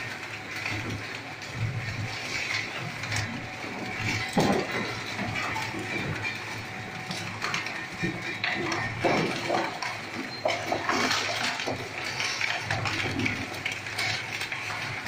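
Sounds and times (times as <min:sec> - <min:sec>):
clattering and loud cracks: 0:00.0 - 0:15.0.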